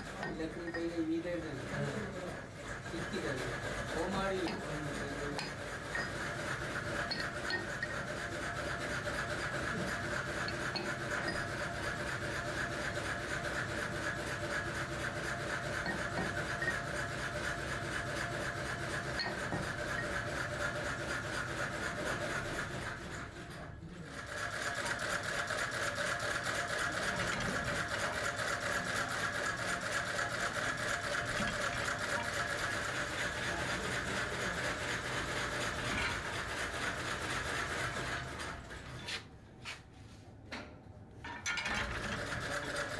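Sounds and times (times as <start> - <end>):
small machine rattling: 0.0 - 38.9, 41.2 - 42.9.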